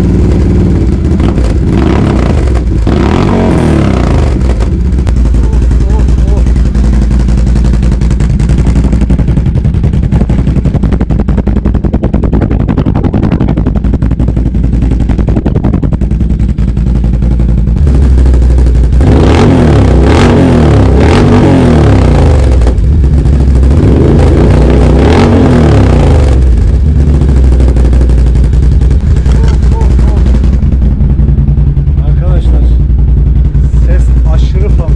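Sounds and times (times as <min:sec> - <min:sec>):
loud engine idling and revving: 0:00.0 - 0:34.9.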